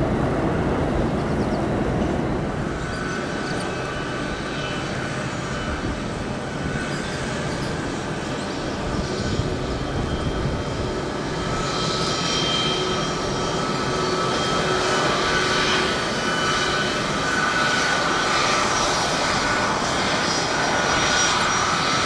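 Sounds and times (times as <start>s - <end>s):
aircraft engines running: 0.0s - 22.0s.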